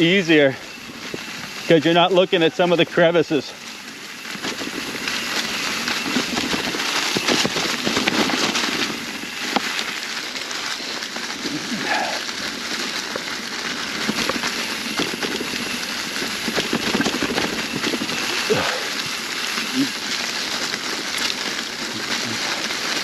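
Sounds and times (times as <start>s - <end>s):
bike tyres crunching dry leaves: 0.0s - 23.0s.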